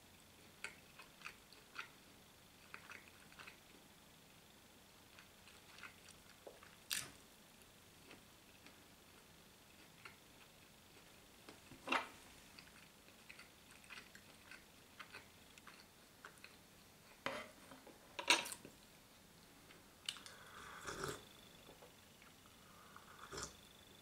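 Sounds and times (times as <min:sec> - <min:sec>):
quiet chewing with mouth clicks: 0:00.4 - 0:02.0, 0:02.6 - 0:03.8, 0:05.0 - 0:17.2, 0:18.6 - 0:23.7.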